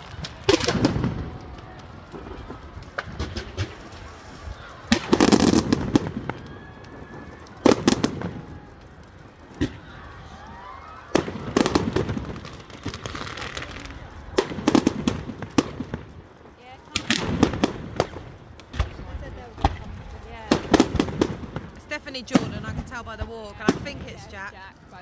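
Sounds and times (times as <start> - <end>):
fireworks bangs and crackles: 0.0 - 25.0
outdoor background: 0.0 - 25.0.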